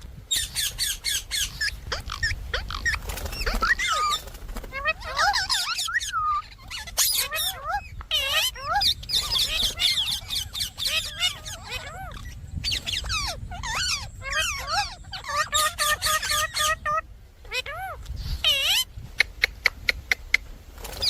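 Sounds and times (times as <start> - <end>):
parakeet chattering and squawking: 0.3 - 20.4.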